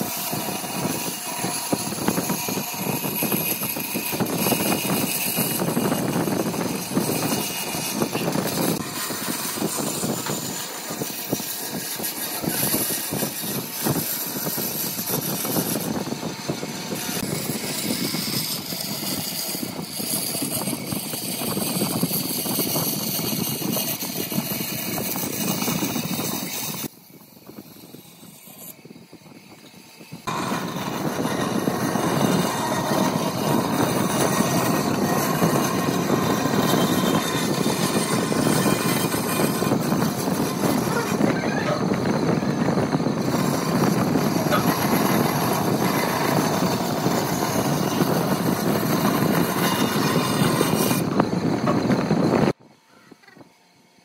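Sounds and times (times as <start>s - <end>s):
band saw cutting wood: 0.0s - 52.6s.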